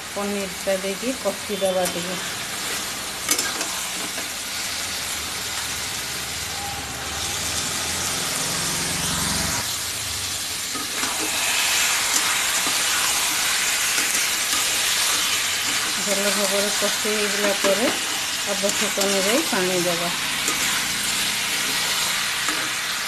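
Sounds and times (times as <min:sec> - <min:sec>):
food sizzling in hot oil: 0:00.0 - 0:23.0
steel spatula stir-frying: 0:00.0 - 0:23.0.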